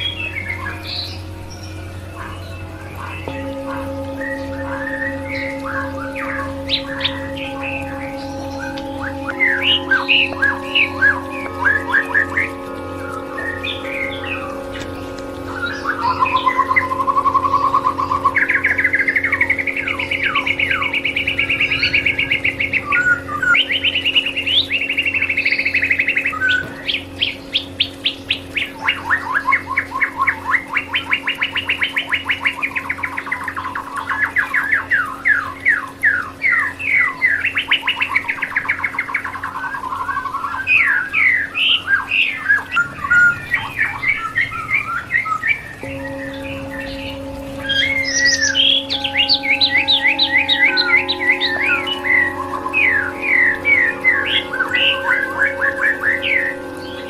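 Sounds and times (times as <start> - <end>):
steady low hum: 0.0 - 37.4, 42.2 - 57.0
songbird singing warbles and trills: 0.0 - 57.0.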